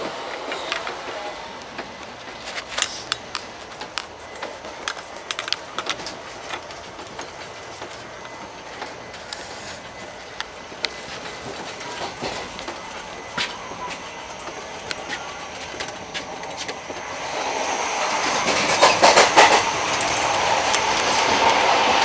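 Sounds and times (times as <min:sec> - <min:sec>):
train rumbling on rails: 0:00.0 - 0:22.0
sharp clicks and clatters: 0:00.3 - 0:12.8, 0:15.7 - 0:22.0.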